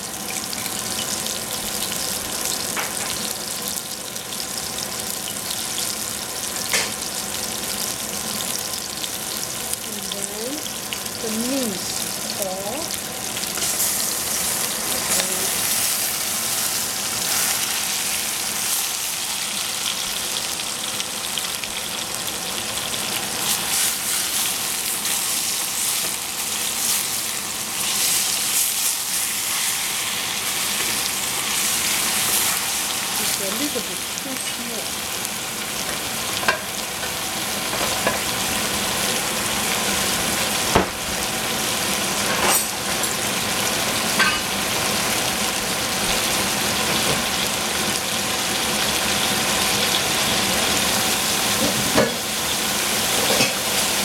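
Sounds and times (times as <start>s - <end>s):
oil sizzling in a saucepan: 0.0s - 54.0s.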